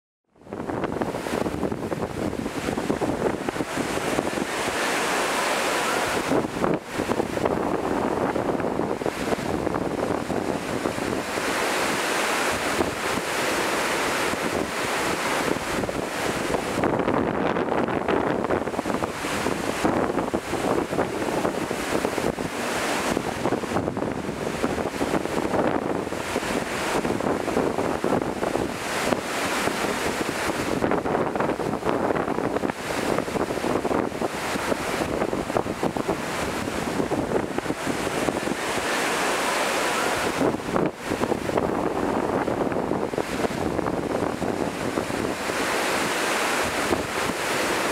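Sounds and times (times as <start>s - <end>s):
surf washing on beach: 0.3s - 47.9s
wind buffeting microphone: 0.4s - 47.9s.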